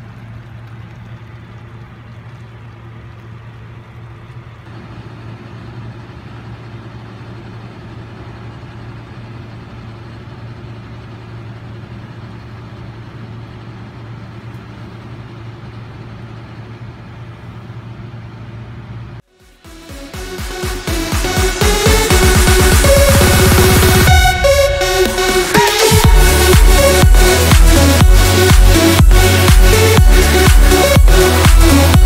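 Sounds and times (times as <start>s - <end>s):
low machine hum: 0.0s - 19.2s, 20.1s - 32.0s.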